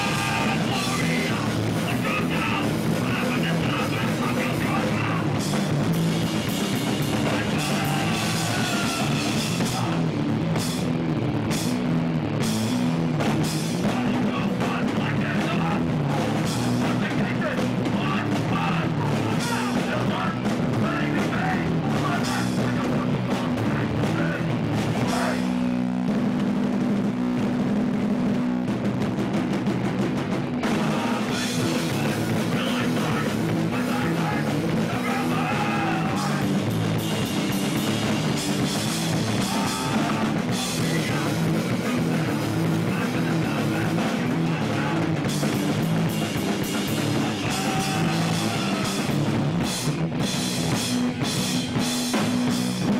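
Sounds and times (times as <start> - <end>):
bass guitar: 0.0 - 52.9
distorted electric guitar: 0.0 - 52.9
drums: 0.0 - 52.9.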